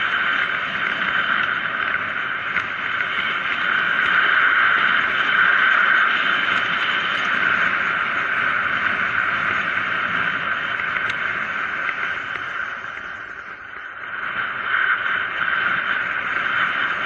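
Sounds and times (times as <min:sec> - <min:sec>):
bicycle coasting rushing noise: 0:00.0 - 0:17.0.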